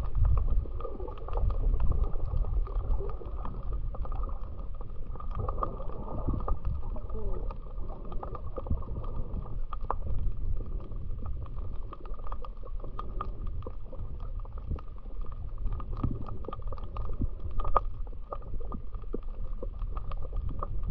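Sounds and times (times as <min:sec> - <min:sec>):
muffled underwater rumble: 0:00.0 - 0:20.9
underwater clicks and crackles: 0:00.0 - 0:20.9.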